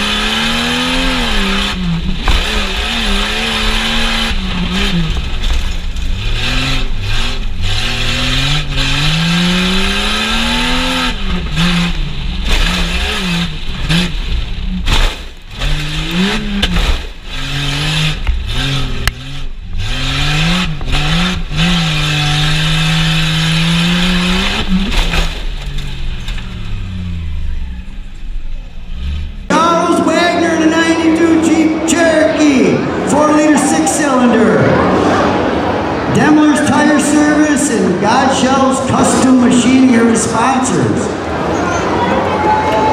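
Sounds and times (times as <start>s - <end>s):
truck engine revving hard: 0.0s - 42.9s.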